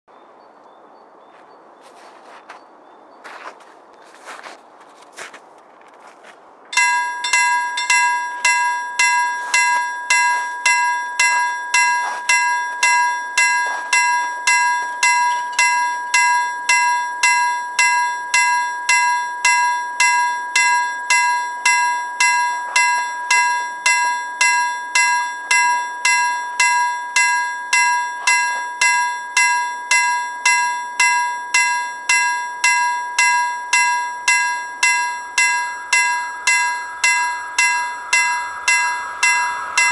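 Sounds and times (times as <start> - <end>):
level crossing warning bell: 6.7 - 39.9.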